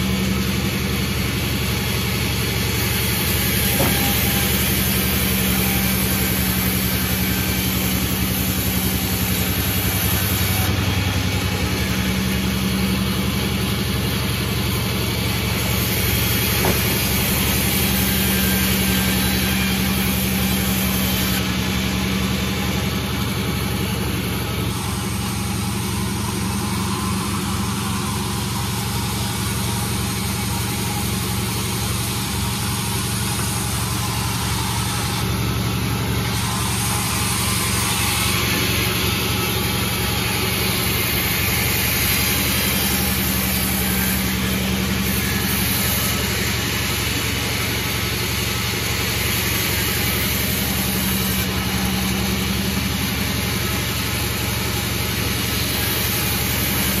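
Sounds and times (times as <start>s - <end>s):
sawmill engine drone: 0.0s - 57.0s.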